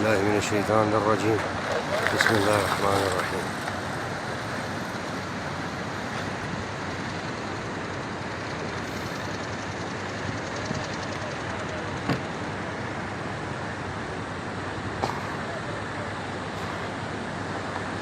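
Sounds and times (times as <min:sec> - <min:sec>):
vehicle driving on road: 0:00.0 - 0:18.0.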